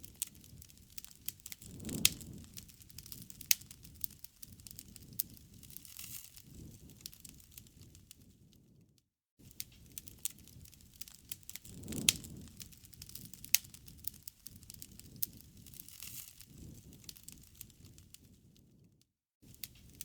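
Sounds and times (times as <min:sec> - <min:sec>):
low rumble of flame: 0:00.0 - 0:20.0
wood crackling and popping: 0:00.0 - 0:20.0.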